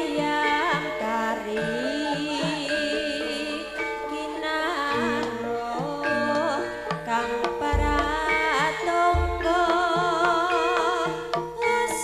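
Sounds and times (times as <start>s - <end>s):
metallophone notes: 0.0s - 12.0s.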